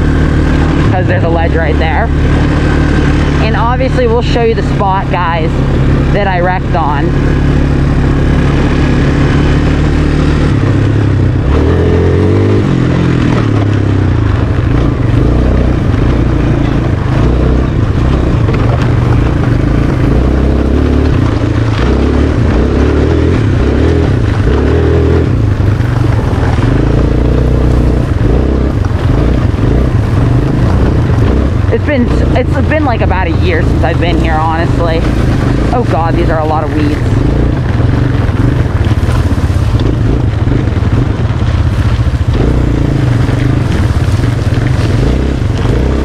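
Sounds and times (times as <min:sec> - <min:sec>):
quad engine revving: 0:00.0 - 0:46.0.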